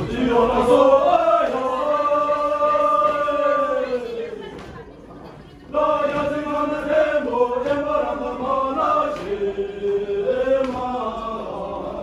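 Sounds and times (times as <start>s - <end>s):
voices chanting in unison: 0.0s - 4.8s, 5.7s - 12.0s.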